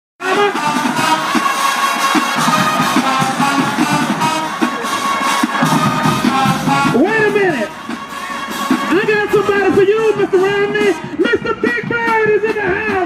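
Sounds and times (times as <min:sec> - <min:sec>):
marching band playing: 0:00.2 - 0:13.0.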